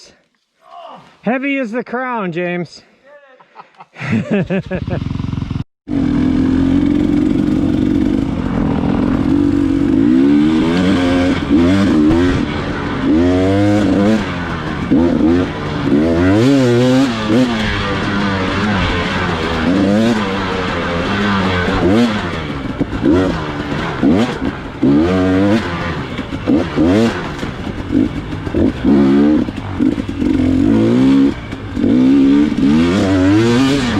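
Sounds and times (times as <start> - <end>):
dirt bike engine revving: 4.7 - 33.9.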